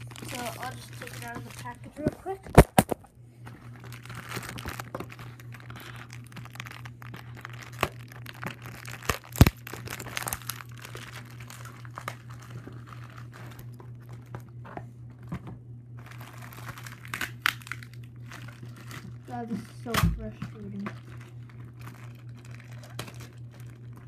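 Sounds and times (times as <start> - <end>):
plastic packaging crinkling: 0.0 - 24.0
steady low hum: 0.0 - 24.0.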